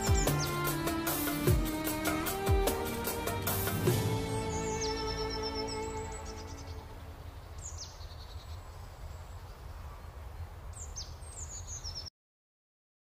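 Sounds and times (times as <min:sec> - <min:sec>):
small birds chirping: 0:00.0 - 0:03.4, 0:04.0 - 0:12.1.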